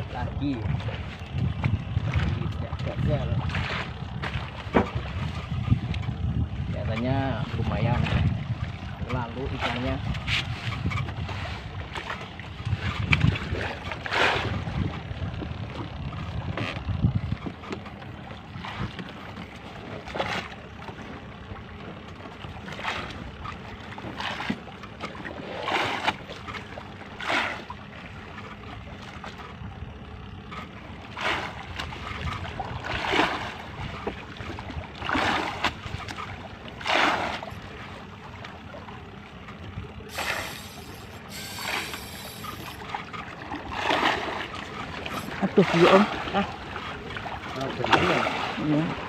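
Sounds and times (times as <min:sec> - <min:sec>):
steady low rumble: 0:00.0 - 0:49.0
water slapping against boat: 0:00.0 - 0:49.0.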